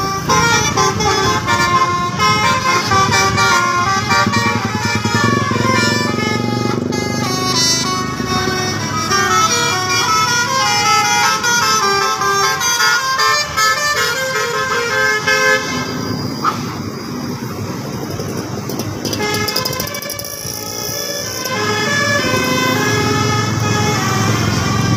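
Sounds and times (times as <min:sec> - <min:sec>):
multi-tone bus horn tune: 0:00.0 - 0:17.6, 0:18.8 - 0:24.9
bus engine running: 0:00.0 - 0:24.9.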